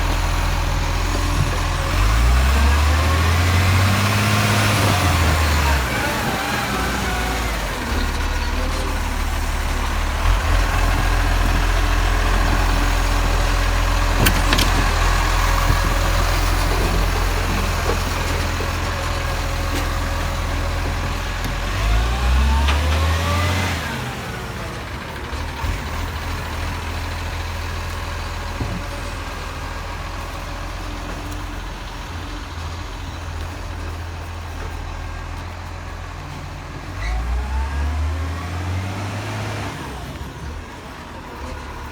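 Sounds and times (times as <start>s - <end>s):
diesel truck engine rumbling: 0.0s - 41.9s.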